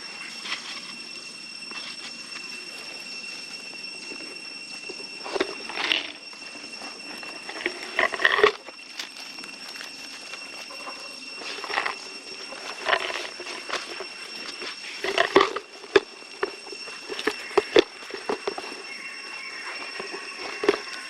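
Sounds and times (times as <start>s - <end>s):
steady high whine: 0.0s - 21.0s.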